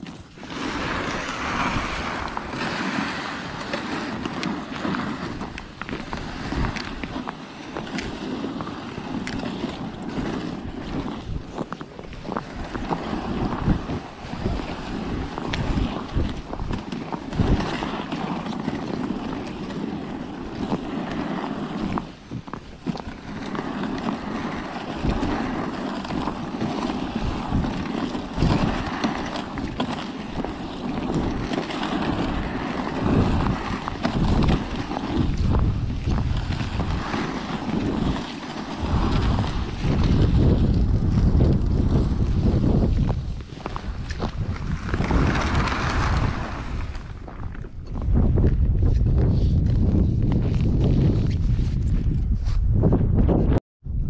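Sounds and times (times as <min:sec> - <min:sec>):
sled bumps and knocks: 0:00.0 - 0:52.2
sled scraping over snow: 0:00.0 - 0:53.6.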